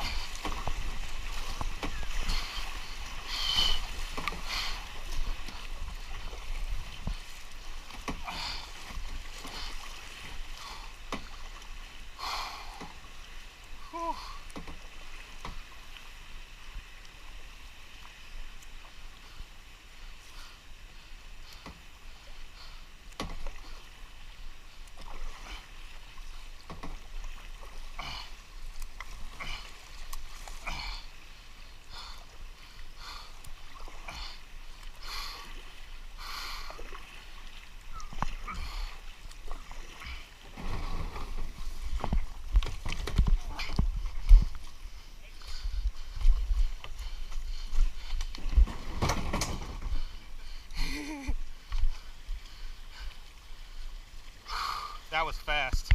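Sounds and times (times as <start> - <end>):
paddle splashing in water: 0.0 - 17.9, 18.7 - 55.9
moving water: 0.0 - 55.9.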